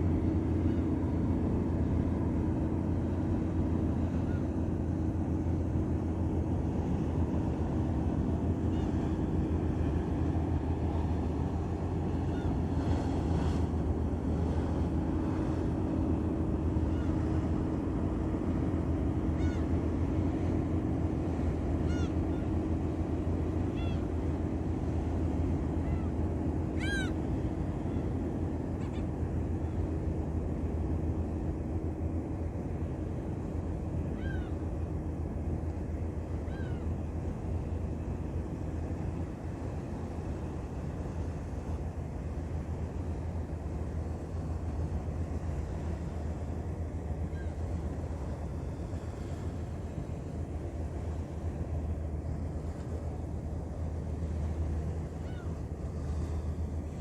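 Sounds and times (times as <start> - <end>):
ship engine drone: 0.0 - 57.0.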